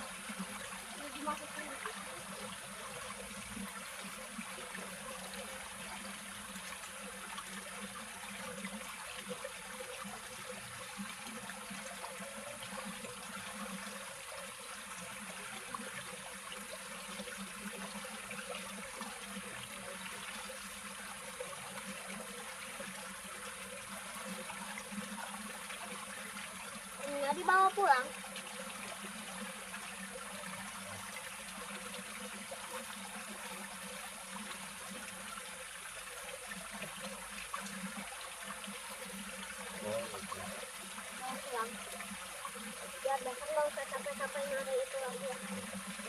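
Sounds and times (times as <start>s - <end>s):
stream water trickling: 0.0s - 46.0s.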